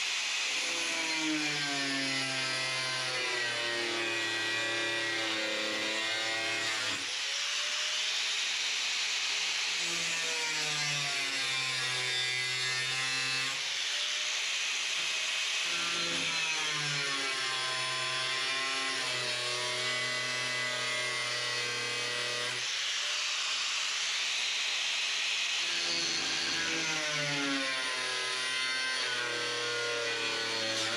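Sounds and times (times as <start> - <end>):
power tool cutting sheet steel: 0.0 - 30.9.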